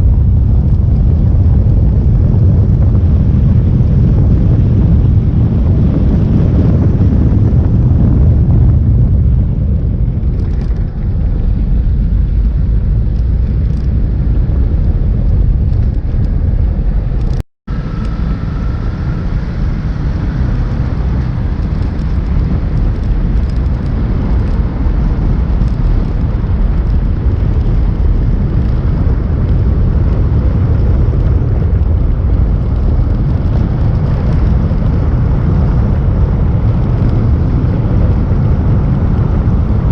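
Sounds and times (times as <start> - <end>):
wind engine and tyre rumble: 0.0 - 39.9.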